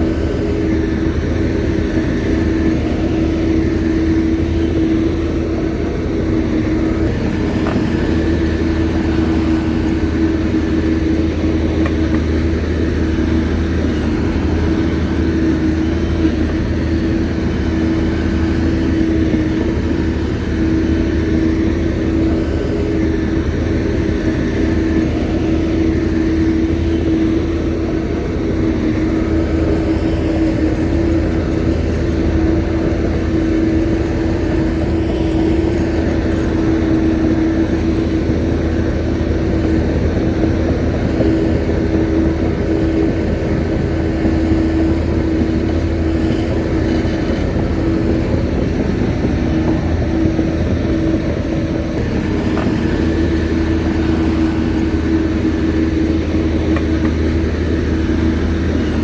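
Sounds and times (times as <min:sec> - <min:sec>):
bulldozer diesel engine droning: 0:00.0 - 0:59.0
mid-pitched engine whine: 0:00.0 - 0:59.0.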